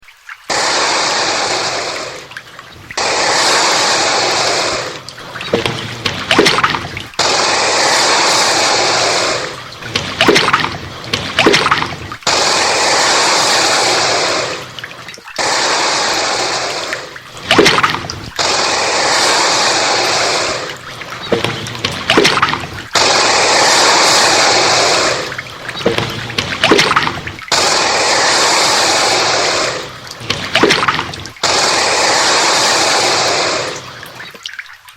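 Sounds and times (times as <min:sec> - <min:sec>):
splashy crackles: 0:00.0 - 0:34.9
alligator hissing: 0:00.5 - 0:34.3.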